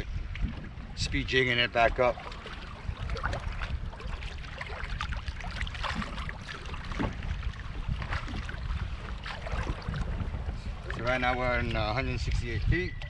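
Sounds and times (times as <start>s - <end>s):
small waves lapping against hull: 0.0s - 13.0s
wind rumble on microphone: 0.0s - 13.0s.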